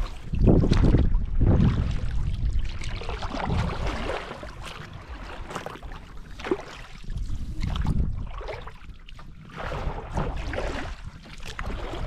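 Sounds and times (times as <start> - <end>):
oars splashing through water: 0.0 - 12.0
water sloshing against hull: 0.0 - 12.0
wind buffeting microphone: 0.0 - 12.0.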